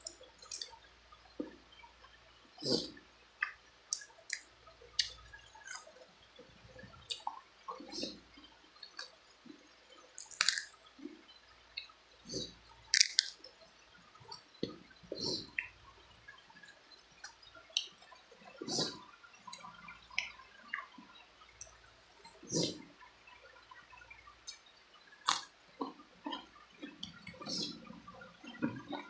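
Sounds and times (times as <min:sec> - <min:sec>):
person chewing with clicks and smacks: 0:00.0 - 0:29.0.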